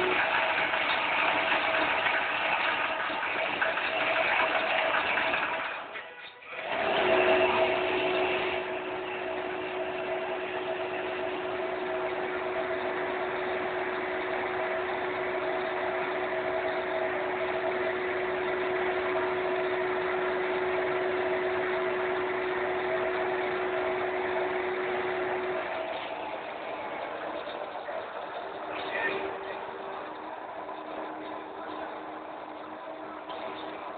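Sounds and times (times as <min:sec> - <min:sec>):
lathe mechanical hum: 0:00.0 - 0:33.9
steady machine whine: 0:00.0 - 0:33.9.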